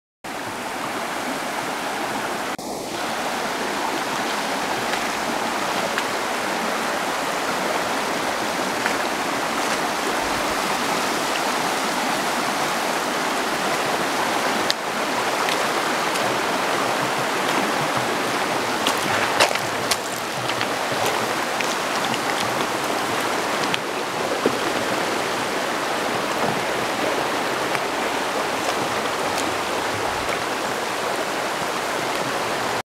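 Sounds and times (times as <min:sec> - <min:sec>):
creek rushing over rocks: 0:00.3 - 0:32.8.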